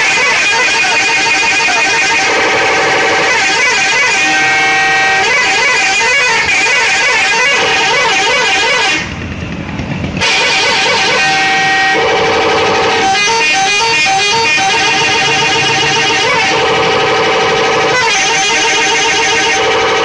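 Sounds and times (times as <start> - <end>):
bus musical horn tune: 0.0 - 9.2, 10.2 - 20.0.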